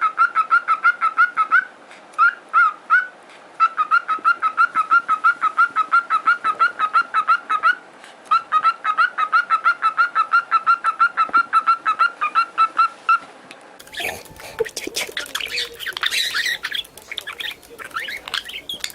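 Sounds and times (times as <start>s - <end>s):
parrot calling rapidly: 0.0s - 13.2s, 13.8s - 18.9s.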